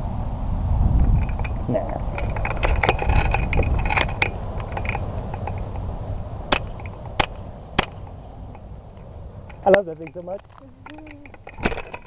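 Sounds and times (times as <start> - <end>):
crackling rustle of movement: 0.0 - 12.0
low wind rumble: 0.0 - 12.0
sharp cracks: 1.0 - 12.0.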